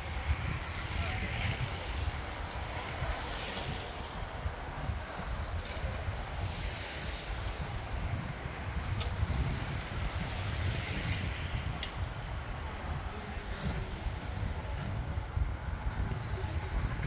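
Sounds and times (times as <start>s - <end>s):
bicycles riding past: 0.0s - 17.0s
street noise: 0.0s - 17.0s
wind buffeting microphone: 0.0s - 17.0s.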